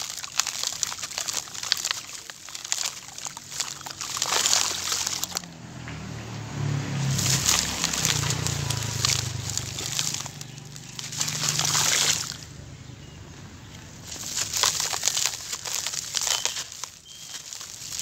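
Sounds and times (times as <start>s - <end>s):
grit pattering and hissing: 0.0s - 6.1s, 6.8s - 12.5s, 14.0s - 18.0s
soft wet sloshing: 0.0s - 12.6s, 14.0s - 18.0s.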